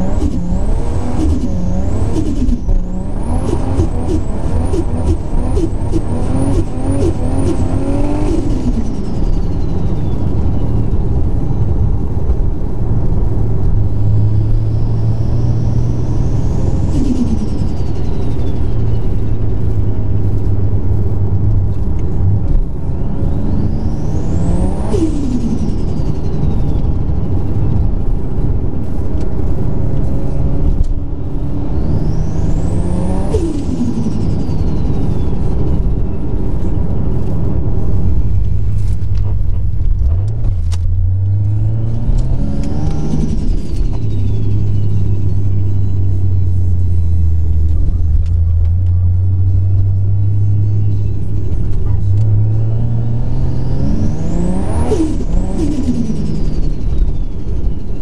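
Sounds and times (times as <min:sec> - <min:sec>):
engine drone: 0:00.0 - 0:58.0
turbo whine: 0:00.0 - 0:58.0.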